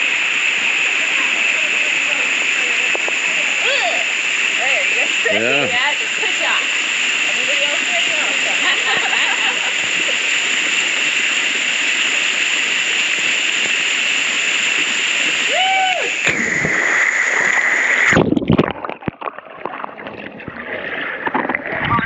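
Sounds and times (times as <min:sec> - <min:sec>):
waterfall rushing: 0:00.0 - 0:18.2
water splashing and sloshing: 0:00.0 - 0:22.0.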